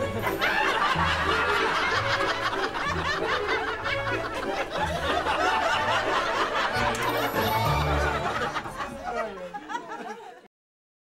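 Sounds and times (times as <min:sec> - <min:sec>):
people laughing and giggling: 0:00.0 - 0:10.5.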